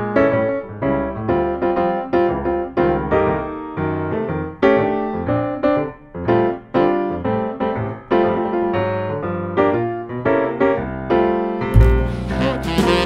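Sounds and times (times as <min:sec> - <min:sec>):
piano music with steady beat: 0:00.0 - 0:13.0.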